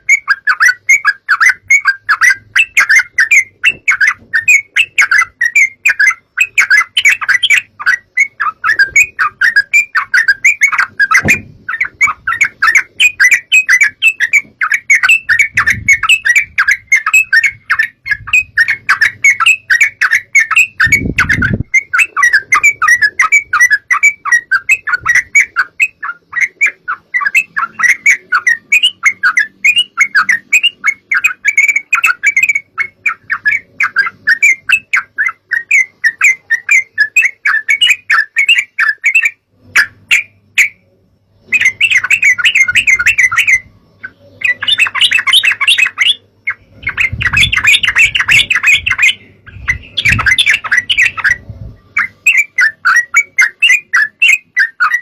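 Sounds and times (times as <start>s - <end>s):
birds singing bubbly chatter: 0.0s - 55.0s.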